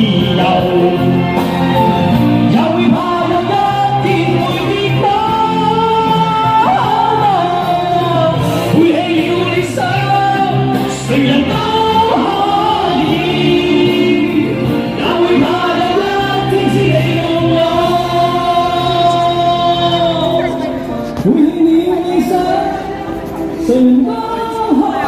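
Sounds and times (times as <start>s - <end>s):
instrumental accompaniment: 0.0s - 25.0s
person singing pop song: 0.0s - 25.0s.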